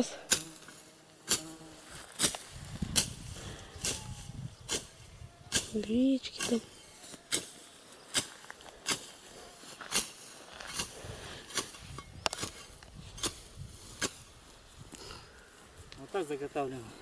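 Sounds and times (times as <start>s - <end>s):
scythe swishing through grass: 0.0s - 14.8s.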